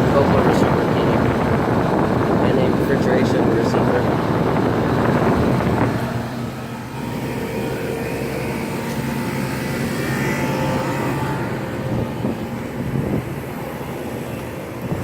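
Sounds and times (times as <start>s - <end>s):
compressor humming: 0.0s - 15.0s
condenser fan rushing: 0.0s - 15.0s.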